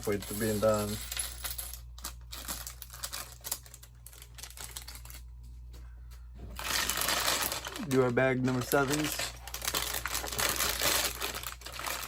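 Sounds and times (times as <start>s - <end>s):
plastic bags crinkling: 0.0s - 5.4s, 6.4s - 12.0s.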